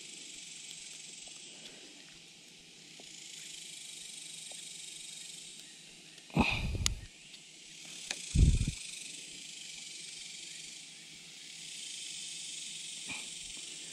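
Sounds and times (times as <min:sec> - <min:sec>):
insects chirring: 0:00.0 - 0:13.9.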